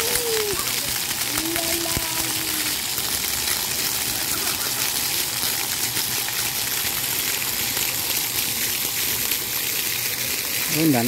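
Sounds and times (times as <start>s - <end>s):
fountain jets spraying water: 0.0s - 11.0s.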